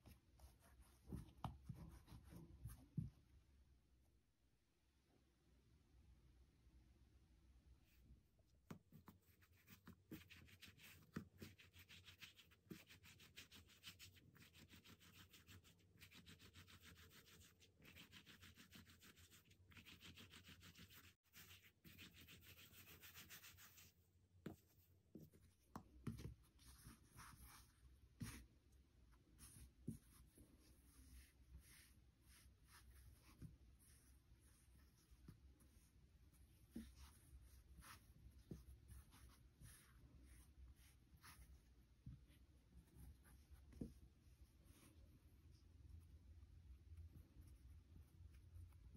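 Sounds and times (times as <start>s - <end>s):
hands rubbing dough: 8.7s - 48.9s.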